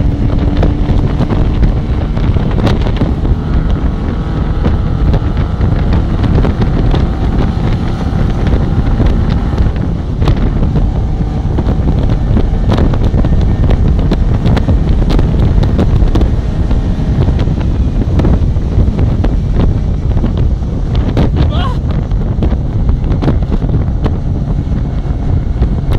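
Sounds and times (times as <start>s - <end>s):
car engine at highway speed: 0.0s - 25.9s
wind buffeting microphone: 0.0s - 25.9s.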